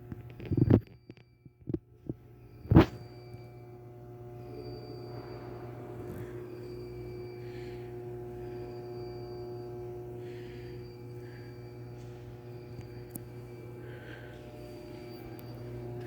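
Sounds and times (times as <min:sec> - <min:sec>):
electrical hum: 0:00.0 - 0:16.0
faint high-pitched tone: 0:02.3 - 0:16.0.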